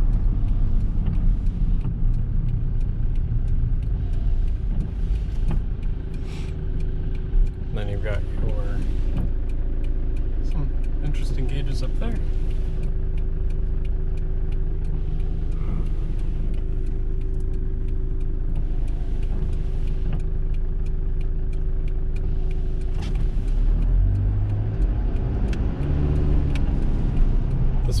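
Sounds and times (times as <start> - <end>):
van engine accelerating: 0.0 - 28.0.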